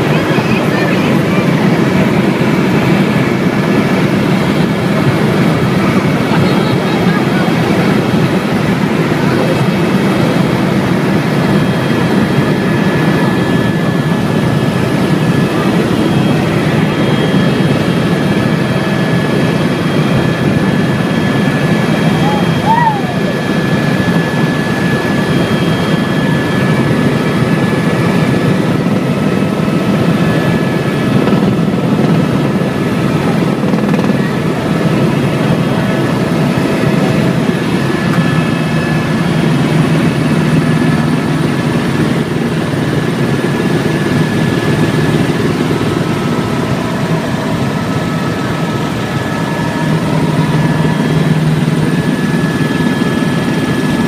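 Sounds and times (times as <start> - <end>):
helicopter rotor and engine rumble: 0.0 - 54.0
thin steady whining tones: 0.0 - 54.0.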